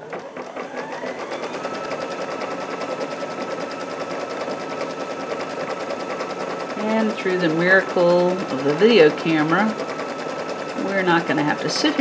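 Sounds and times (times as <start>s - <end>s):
embroidery machine stitching: 0.0s - 12.0s.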